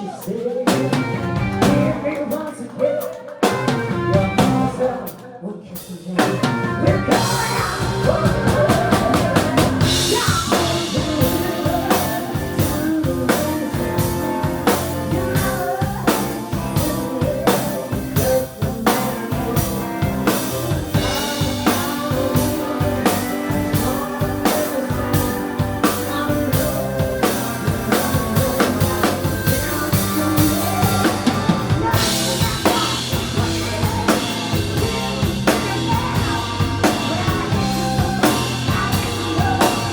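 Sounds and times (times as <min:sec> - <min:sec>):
live rock band playing: 0:00.0 - 0:39.9
woman singing lead vocal: 0:00.0 - 0:39.9.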